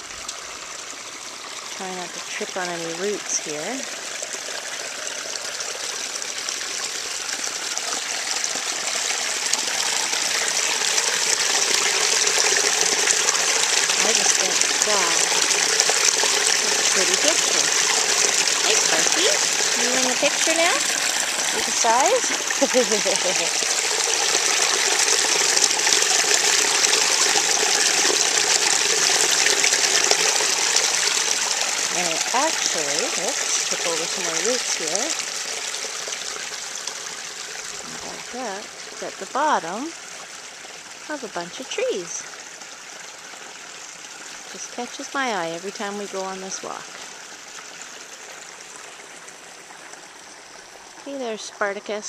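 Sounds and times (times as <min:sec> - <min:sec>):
waterfall splashing into pool: 0:00.0 - 0:51.8.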